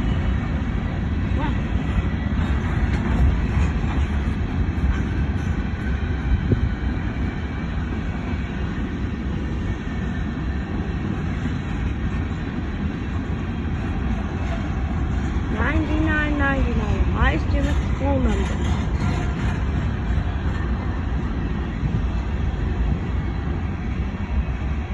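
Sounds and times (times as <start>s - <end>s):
freight train cars rolling past: 0.0s - 24.9s.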